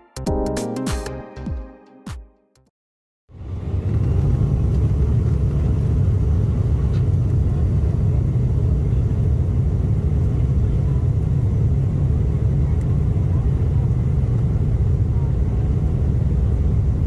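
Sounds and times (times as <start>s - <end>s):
airliner cabin rumble: 3.3s - 17.0s.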